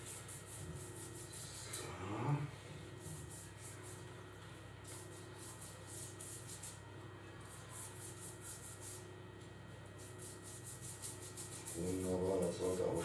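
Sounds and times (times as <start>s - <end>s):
pastry brush strokes on dough: 0.0s - 2.0s, 2.8s - 9.1s, 9.9s - 13.0s.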